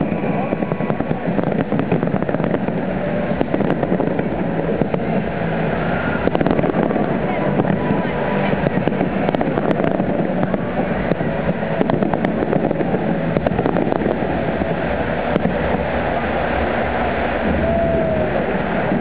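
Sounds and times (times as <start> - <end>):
fireworks bursting: 0.0 - 19.0
sharp fireworks cracks: 0.0 - 19.0.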